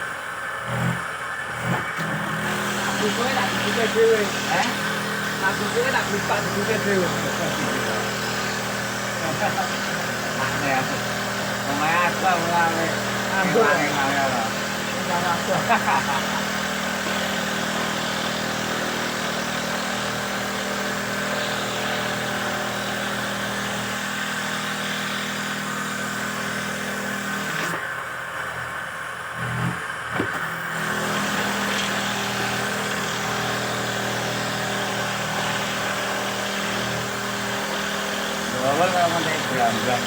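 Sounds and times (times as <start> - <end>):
wooden machine motor hum: 0.0 - 40.0.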